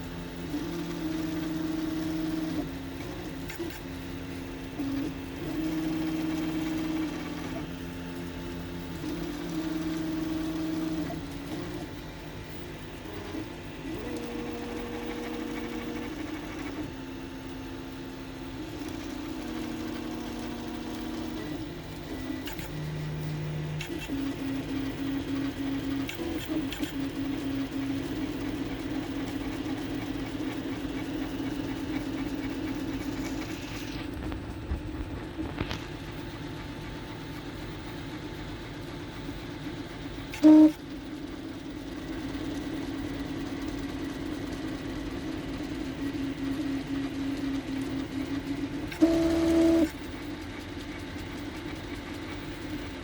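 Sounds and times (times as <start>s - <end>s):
stepper motors humming tones: 0.0s - 53.0s.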